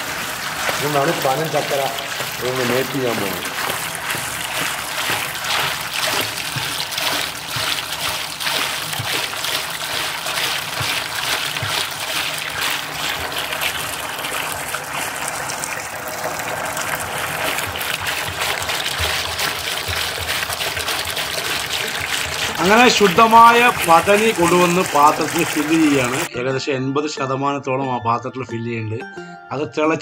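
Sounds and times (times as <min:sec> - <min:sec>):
liquid pouring and splashing: 0:00.0 - 0:26.3.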